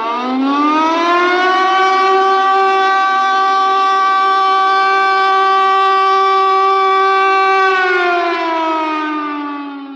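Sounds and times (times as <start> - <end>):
air raid siren: 0.0 - 9.9.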